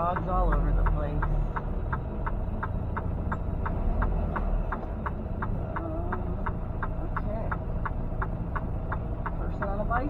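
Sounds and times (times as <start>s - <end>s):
road noise: 0.0s - 10.0s
truck engine drone: 0.0s - 10.0s
turn signal ticking: 0.0s - 10.0s.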